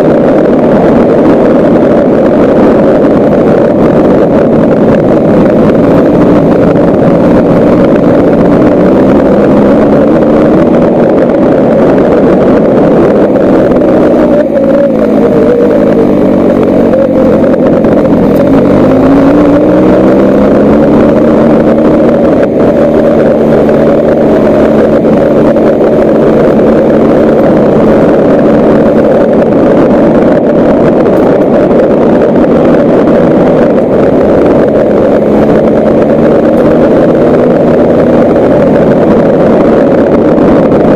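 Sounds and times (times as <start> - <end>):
gravel road noise: 0.0 - 40.9
vehicle engine running: 0.0 - 40.9
wind noise: 0.0 - 40.9.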